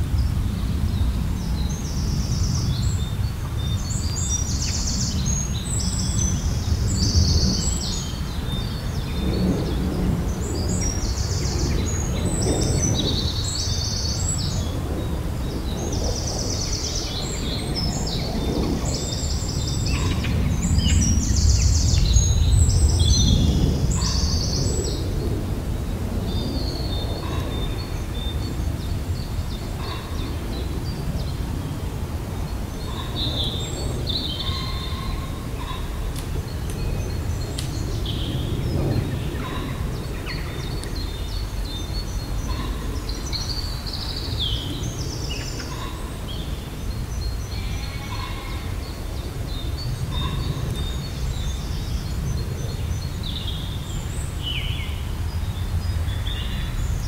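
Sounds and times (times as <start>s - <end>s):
steady low rumble: 0.0s - 57.0s
birds singing and chirping: 0.1s - 57.0s.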